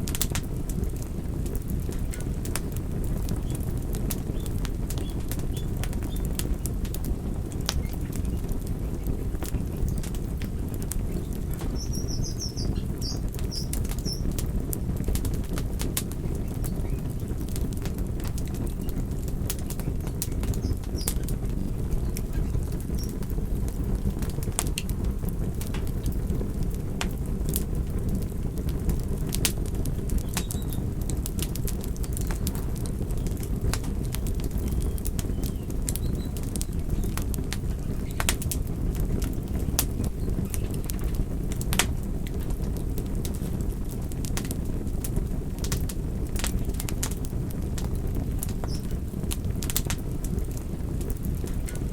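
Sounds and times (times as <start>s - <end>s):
campfire flames rushing: 0.0s - 51.9s
crackles and pops of burning wood: 0.0s - 51.9s.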